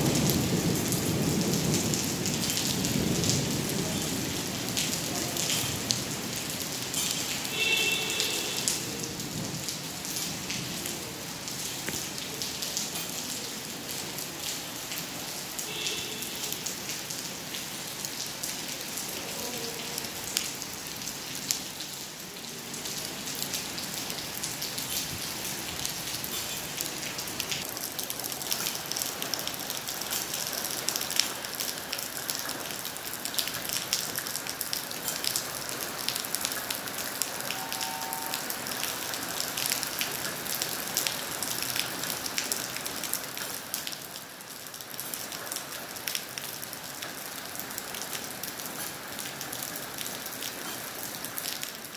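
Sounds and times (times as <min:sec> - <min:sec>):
heavy rain pouring: 0:00.0 - 0:51.9
raindrops spattering close: 0:00.0 - 0:51.9.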